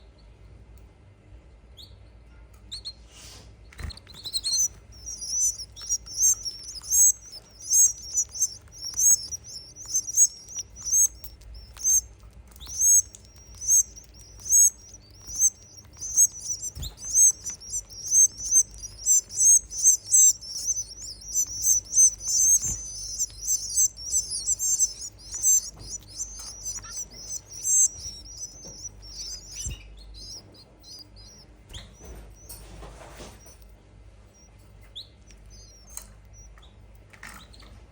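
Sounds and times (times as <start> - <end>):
nestlings cheeping: 3.6 - 37.6.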